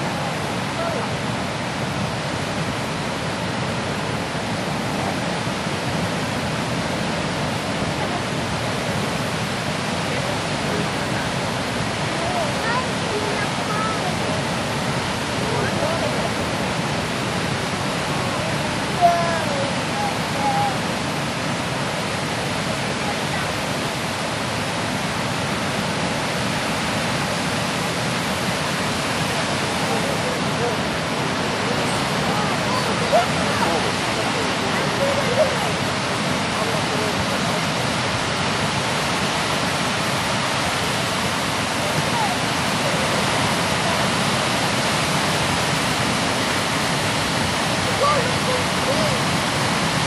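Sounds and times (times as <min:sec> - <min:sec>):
fast river water rushing: 0:00.0 - 0:50.0.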